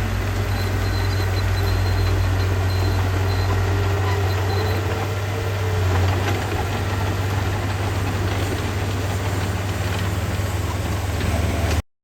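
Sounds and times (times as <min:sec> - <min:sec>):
heavy diesel engine droning: 0:00.0 - 0:11.9.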